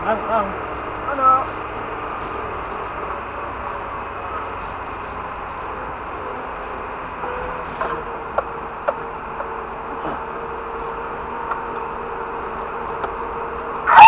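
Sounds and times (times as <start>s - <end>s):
vehicle engine running at low revs: 0.0s - 14.0s.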